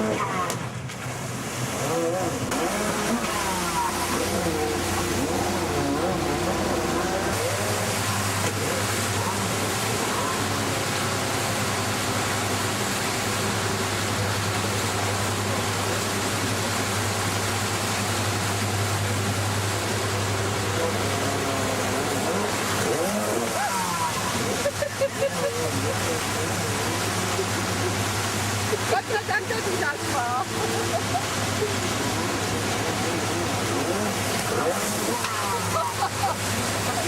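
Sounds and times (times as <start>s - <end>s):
jet ski engine rushing: 0.0s - 37.0s
voices: 1.8s - 37.0s.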